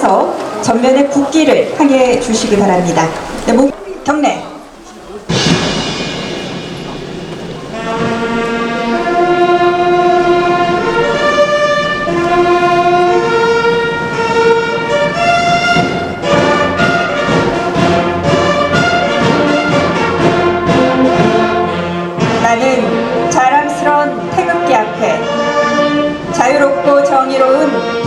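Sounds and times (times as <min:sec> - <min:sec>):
orchestral music with strings: 0:00.0 - 0:28.0.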